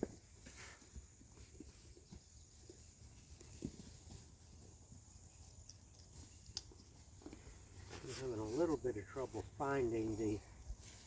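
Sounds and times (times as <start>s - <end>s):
faint rustles: 0.0s - 11.0s.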